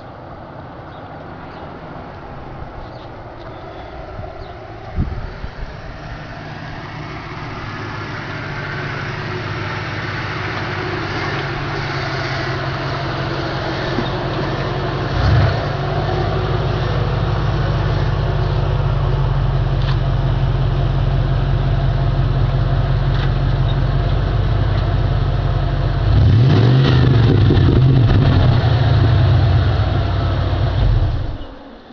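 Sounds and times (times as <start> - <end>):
car engine rumble: 0.0 - 31.9.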